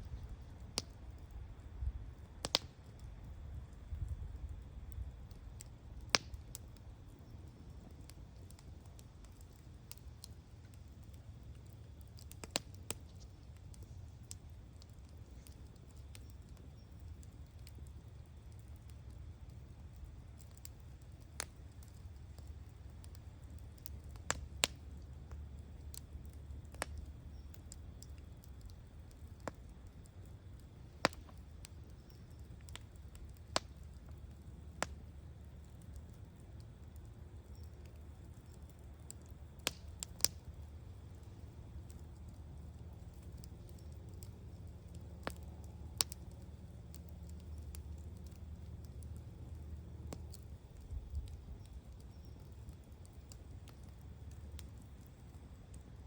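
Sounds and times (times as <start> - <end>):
bonfire crackling and popping: 0.0 - 56.0
low steady rumble: 0.0 - 56.0.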